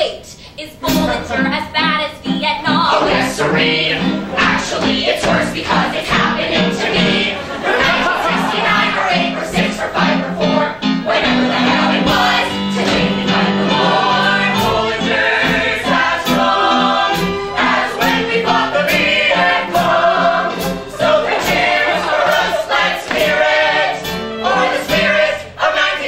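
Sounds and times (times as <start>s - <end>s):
choir singing in harmony: 2.6s - 26.0s.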